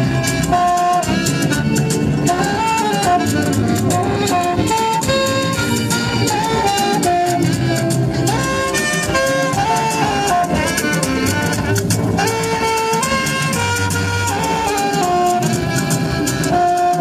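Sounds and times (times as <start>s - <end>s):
drums and bass backing: 0.0s - 17.0s
saxophone melody: 0.0s - 17.0s.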